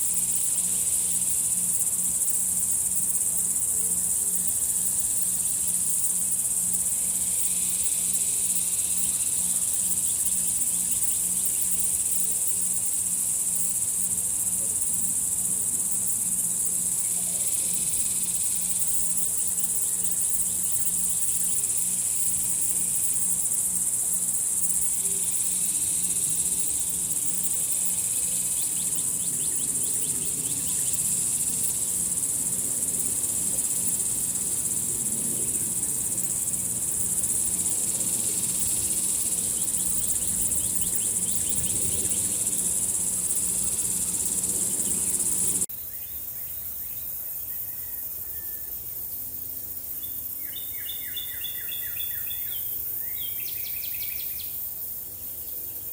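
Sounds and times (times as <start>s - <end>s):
high-pitched insect chorus: 0.0s - 55.9s
outdoor ambience: 0.0s - 55.9s.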